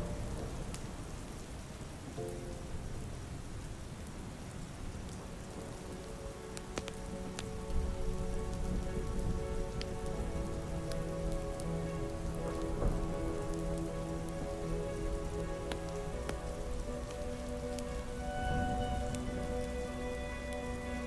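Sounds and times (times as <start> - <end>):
ambient music low tones: 0.0 - 21.0
soft rain: 0.0 - 21.0.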